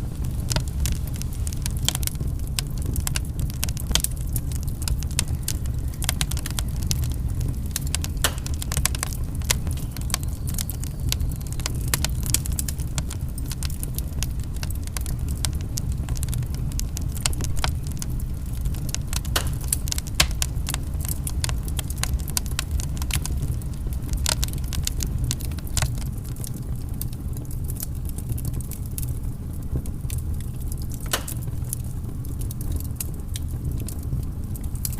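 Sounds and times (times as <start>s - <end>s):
low rumble of burning: 0.0s - 34.9s
wood fire crackling and popping: 0.0s - 34.9s.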